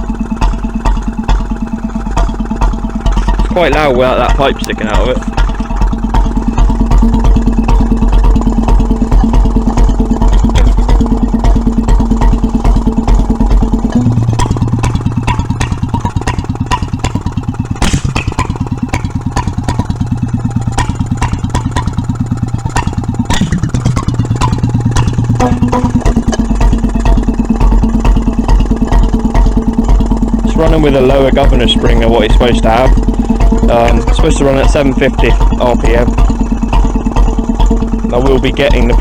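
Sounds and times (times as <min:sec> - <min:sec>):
stationary engine firing beat: 0:00.0 - 0:39.0.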